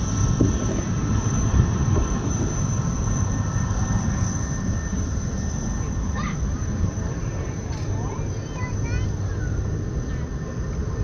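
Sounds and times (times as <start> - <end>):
high-pitched engine whine: 0.0 - 11.0
jet engines low rumble: 0.0 - 11.0.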